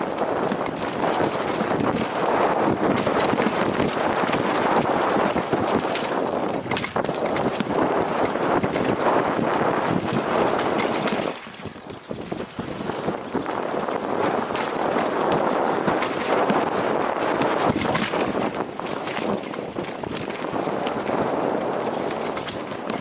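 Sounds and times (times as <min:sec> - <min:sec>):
bike clacking and rattling: 0:00.0 - 0:23.0
tyres rushing on dirt: 0:00.0 - 0:23.0
wind on microphone: 0:00.0 - 0:23.0.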